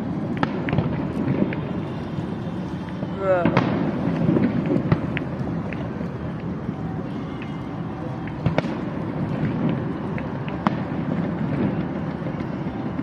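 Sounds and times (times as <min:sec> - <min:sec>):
fireworks bursts rumbling: 0:00.0 - 0:13.0
sharp fireworks cracks: 0:00.0 - 0:13.0.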